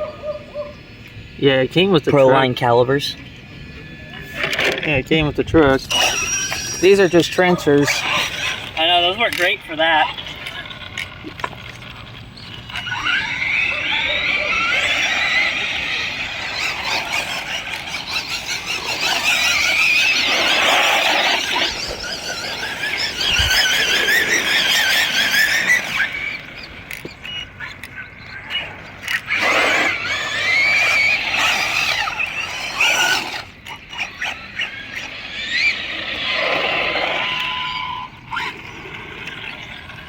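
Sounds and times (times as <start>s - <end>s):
rc cars driving: 0.0s - 40.0s
tyres squealing: 5.8s - 11.4s, 12.0s - 39.9s.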